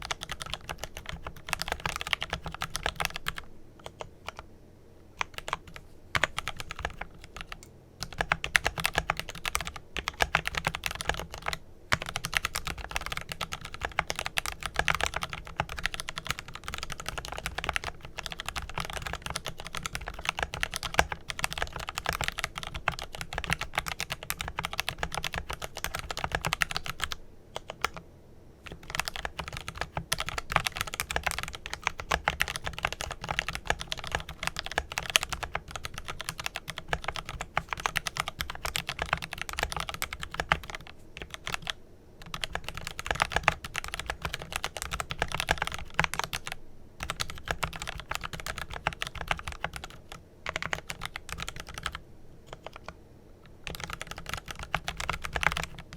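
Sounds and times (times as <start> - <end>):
fast mechanical keyboard typing: 0.0 - 4.4, 5.2 - 28.0, 28.6 - 55.9.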